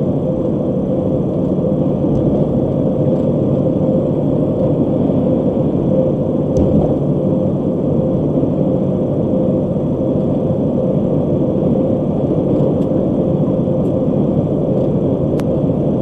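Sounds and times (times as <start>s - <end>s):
low hum in car cabin: 0.0s - 16.0s.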